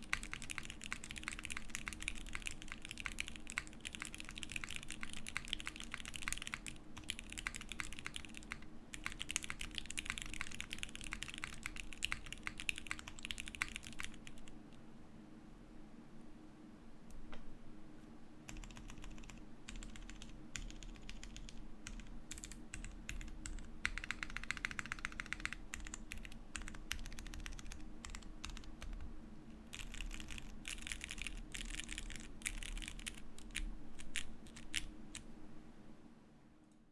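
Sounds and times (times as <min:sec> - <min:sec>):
mechanical keyboard typing: 0:00.0 - 0:14.5, 0:18.5 - 0:29.1, 0:29.7 - 0:35.3.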